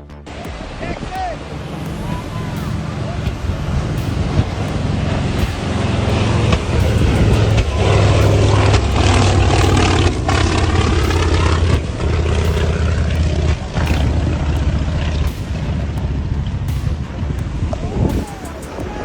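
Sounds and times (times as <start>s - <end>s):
noisy rush: 0.0s - 19.0s.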